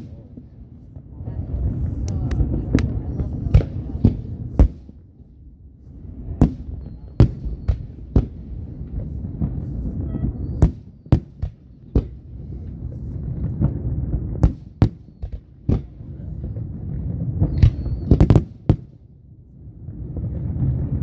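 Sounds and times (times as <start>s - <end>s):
fireworks bangs: 0.0s - 0.6s, 1.3s - 5.0s, 6.1s - 19.0s
low rolling rumble: 0.0s - 18.7s.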